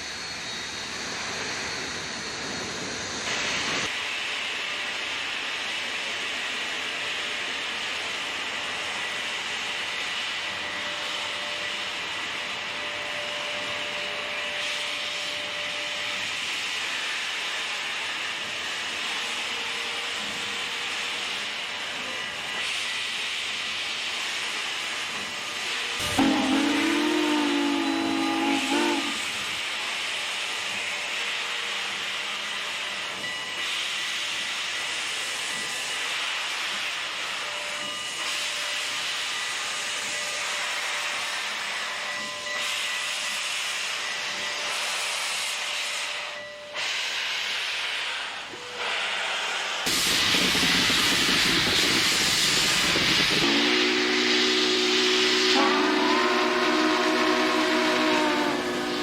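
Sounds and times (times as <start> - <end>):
steam train hissing: 0.0 - 59.0.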